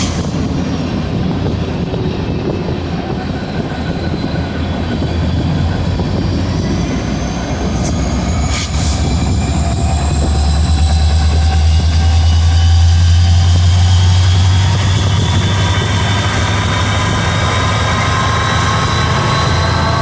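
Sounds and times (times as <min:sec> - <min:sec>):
train cars rumbling on rails: 0:00.0 - 0:20.0.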